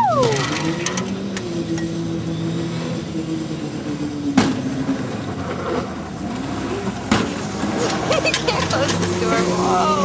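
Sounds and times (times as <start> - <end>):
car engines running: 0.0 - 10.0.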